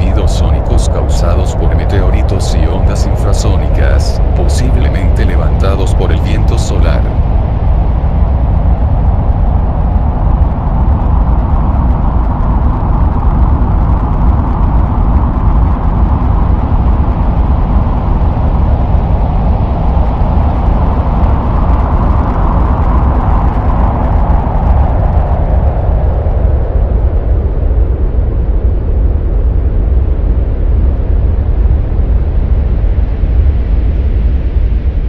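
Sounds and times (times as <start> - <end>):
deep steady rumbling wind: 0.0 - 35.0.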